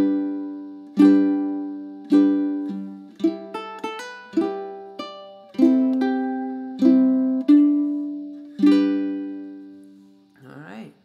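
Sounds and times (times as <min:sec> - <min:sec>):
ukulele plucked notes and chords: 0:00.0 - 0:10.3.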